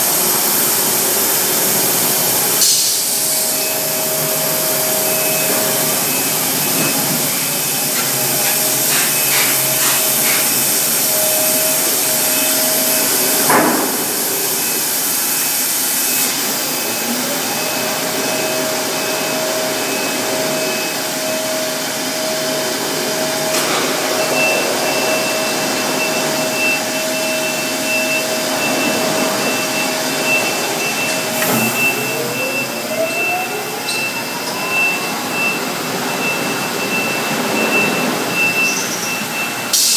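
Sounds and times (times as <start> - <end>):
industrial washer hiss and hum: 0.0 - 39.9.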